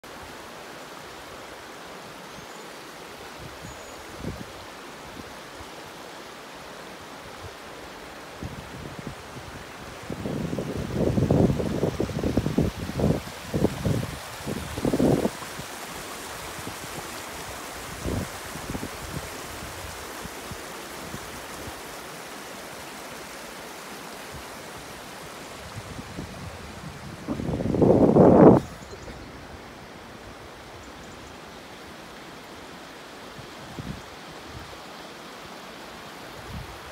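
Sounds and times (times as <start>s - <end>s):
river water rushing over rocks: 0.0s - 36.9s.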